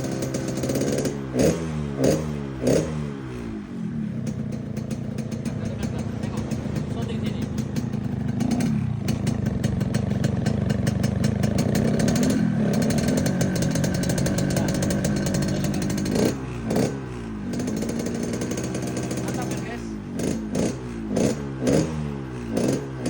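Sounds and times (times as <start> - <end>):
two-stroke motorcycle engine revving: 0.0 - 23.0.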